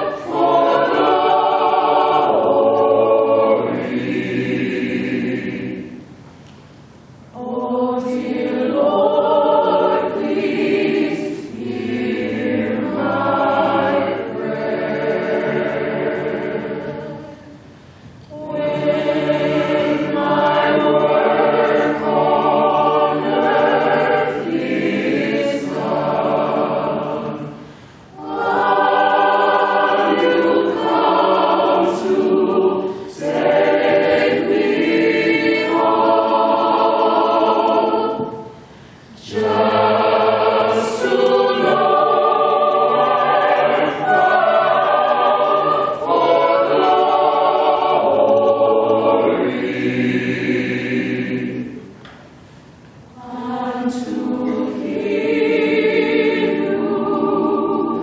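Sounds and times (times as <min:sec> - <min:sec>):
mixed-voice choir singing: 0:00.0 - 0:06.2, 0:07.3 - 0:58.0.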